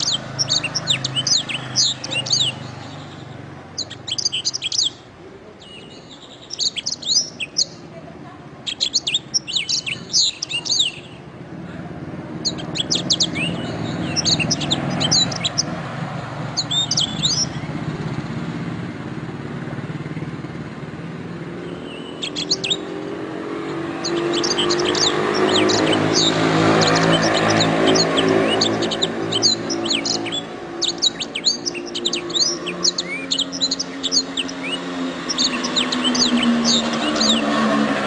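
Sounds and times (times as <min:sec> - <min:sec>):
canary singing: 0:00.0 - 0:11.3, 0:12.3 - 0:18.3, 0:20.2 - 0:38.0.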